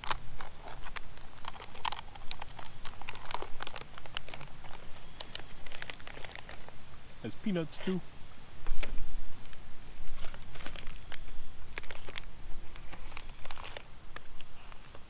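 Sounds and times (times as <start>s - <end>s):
snack packaging crinkling: 0.0s - 6.8s, 8.7s - 15.0s.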